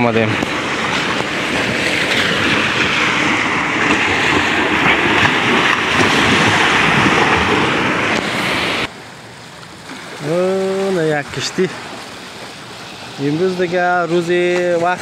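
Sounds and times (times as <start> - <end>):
sea waves breaking on sand: 0.0 - 15.0.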